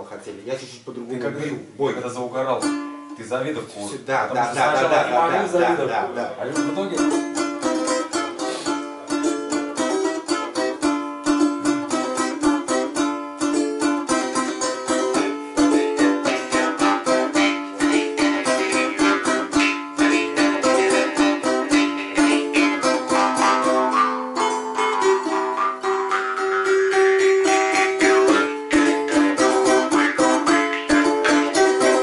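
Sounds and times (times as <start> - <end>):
balalaika strummed fast: 2.5 - 3.4, 4.3 - 32.0.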